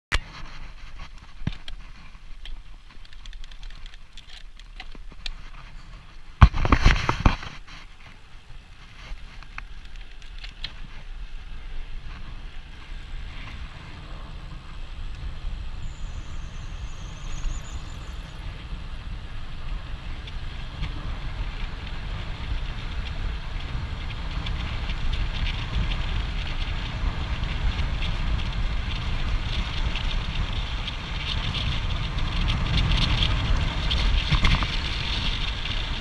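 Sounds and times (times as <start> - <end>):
bike coasting rumble: 0.2 - 36.0
wind buffeting microphone: 4.9 - 36.0.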